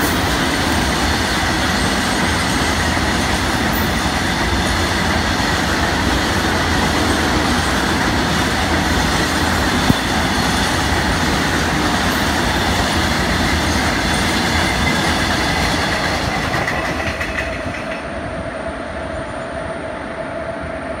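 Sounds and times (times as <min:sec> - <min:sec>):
train wheels clattering: 0:00.0 - 0:18.2
electric locomotive humming: 0:00.0 - 0:21.0.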